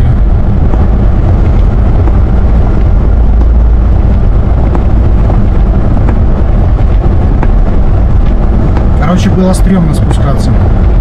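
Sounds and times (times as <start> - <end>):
truck cab low rumble: 0.0 - 11.0.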